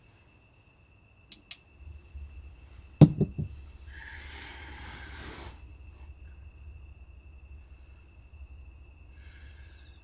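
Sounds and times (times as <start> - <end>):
cricket trilling: 0.0 - 10.0
fast pulsed insect chirping: 0.0 - 10.0
low rumble: 1.7 - 10.0.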